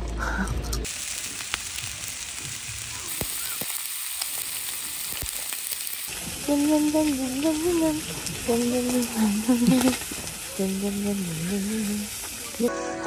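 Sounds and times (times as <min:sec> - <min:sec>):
meat sizzling: 0:00.8 - 0:12.7.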